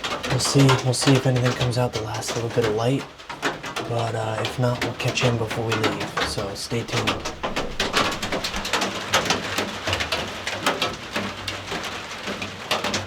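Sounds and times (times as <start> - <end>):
rain tapping on a blind roof: 0.0 - 13.0.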